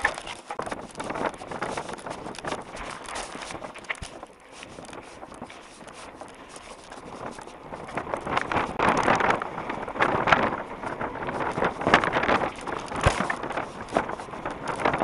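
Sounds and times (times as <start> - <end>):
mountain bike rattle and tyre noise: 0.0 - 15.0
wind rushing over microphone: 0.0 - 15.0.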